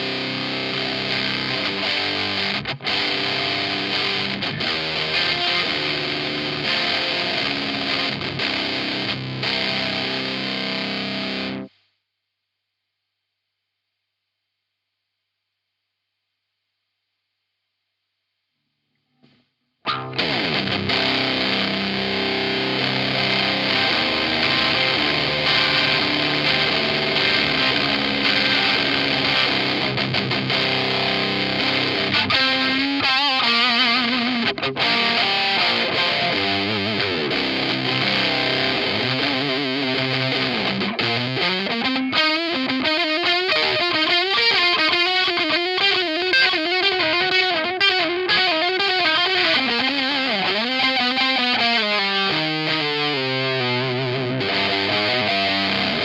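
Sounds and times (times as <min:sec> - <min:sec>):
distorted electric guitar: 0:00.0 - 0:11.7, 0:19.2 - 0:56.0.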